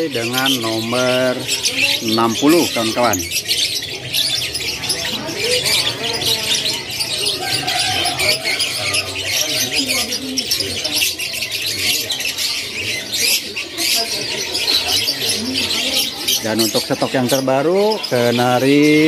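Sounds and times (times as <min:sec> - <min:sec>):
canaries chirping and singing: 0:00.0 - 0:19.0
murmuring voices: 0:00.0 - 0:19.0.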